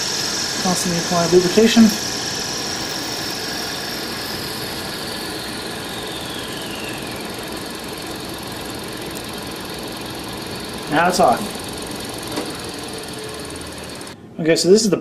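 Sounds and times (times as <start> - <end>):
faint high whine: 0.0 - 14.2
lathe cutting metal: 0.0 - 14.2.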